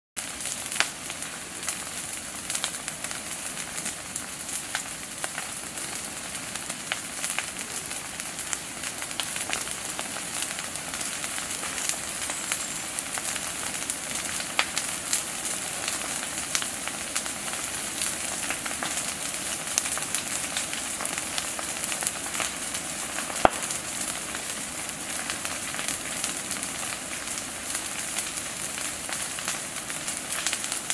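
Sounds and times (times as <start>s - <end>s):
vegetation fire crackling and popping: 0.2s - 30.9s.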